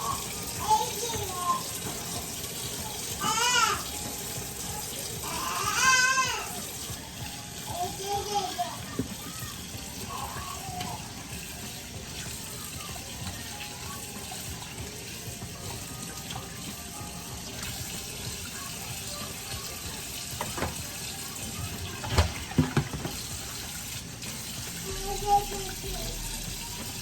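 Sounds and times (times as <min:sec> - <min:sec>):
water running from a tap: 0:00.0 - 0:27.0.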